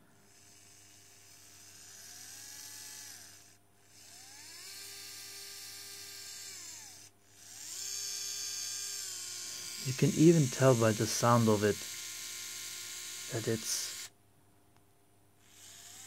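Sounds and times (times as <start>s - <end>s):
electric screwdriver motor whine: 0.3s - 14.1s, 15.4s - 16.0s.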